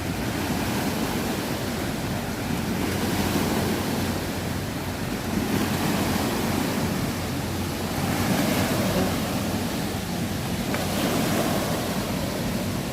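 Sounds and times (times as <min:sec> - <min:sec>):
small river waves slapping: 0:00.0 - 0:12.9.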